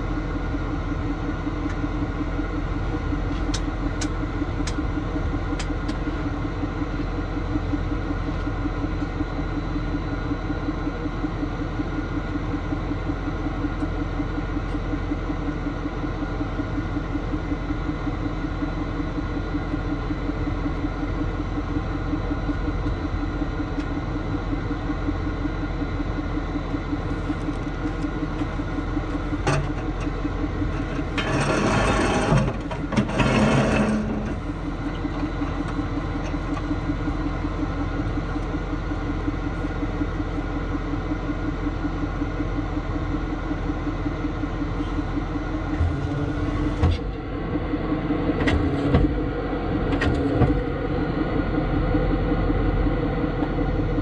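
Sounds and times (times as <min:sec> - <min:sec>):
truck engine idling: 0:00.0 - 0:48.4, 0:50.5 - 0:54.0.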